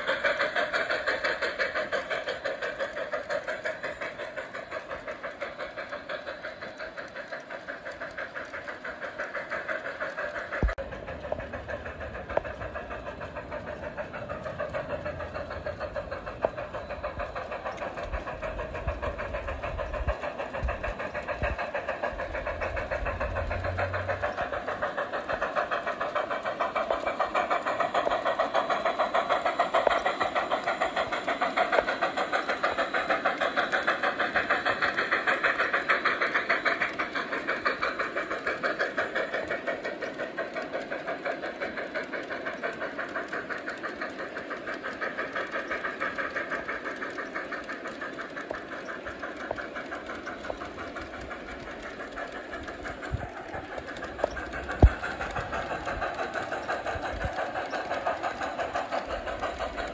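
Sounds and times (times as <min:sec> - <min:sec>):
model train clattering on track: 0:00.0 - 0:59.9.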